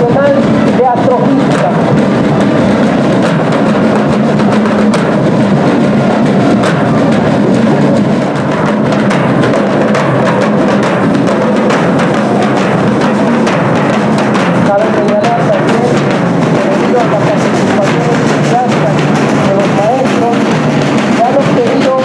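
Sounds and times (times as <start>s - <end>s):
bass drum hits: 0.0s - 22.0s
marching band drums: 0.0s - 22.0s.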